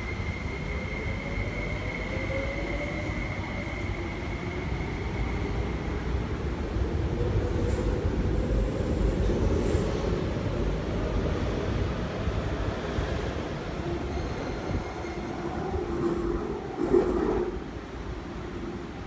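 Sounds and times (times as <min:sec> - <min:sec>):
electric train rumbling past: 0:00.0 - 0:19.0.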